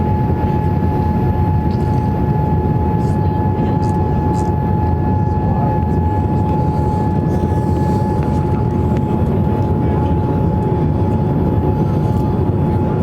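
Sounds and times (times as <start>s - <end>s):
jet engines and airflow roaring: 0.0s - 13.0s
thin steady whine: 0.0s - 13.0s.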